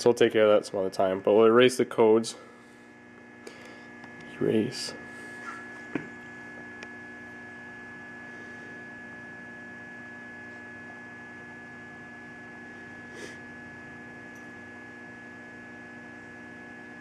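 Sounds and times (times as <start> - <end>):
high whine: 0.0 - 15.4
steady electrical hum: 0.0 - 17.0.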